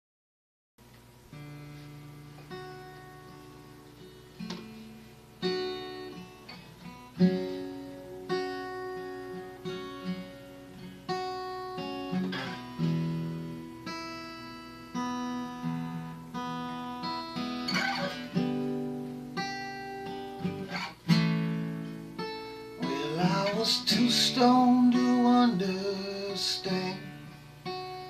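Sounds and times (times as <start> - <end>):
acoustic guitar strummed chords: 0.8 - 28.0.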